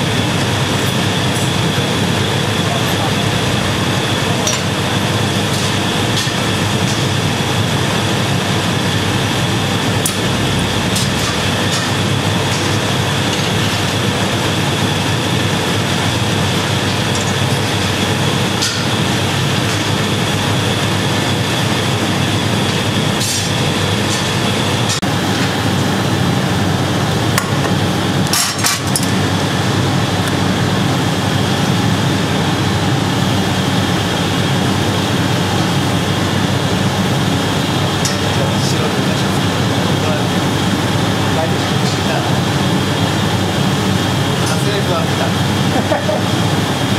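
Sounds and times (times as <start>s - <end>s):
gas furnaces and blowers roaring: 0.0s - 46.9s.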